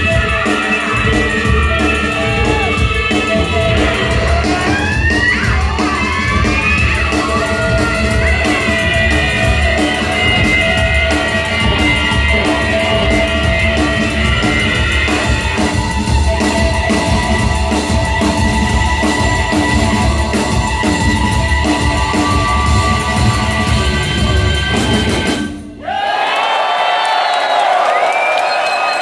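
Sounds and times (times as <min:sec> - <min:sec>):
drum kit beat: 0:00.0 - 0:25.9.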